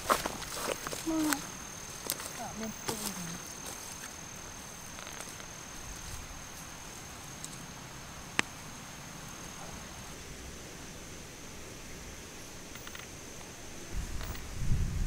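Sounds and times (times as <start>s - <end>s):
insect buzzing steady high tone: 0.0s - 15.0s
soft field ambience hiss: 0.0s - 15.0s.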